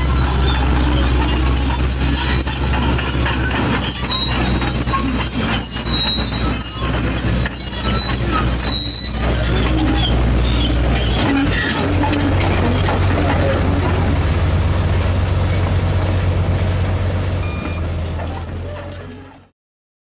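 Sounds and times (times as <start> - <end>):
brakes squealing: 0.0 - 19.5
diesel truck engine: 0.0 - 19.5.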